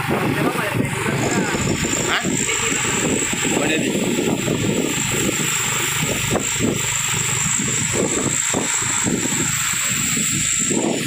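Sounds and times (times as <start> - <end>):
steady high whine: 0.0 - 11.0
tyres on wet asphalt: 0.0 - 11.0
vehicle engine: 0.0 - 11.0
wind buffeting microphone: 0.0 - 11.0.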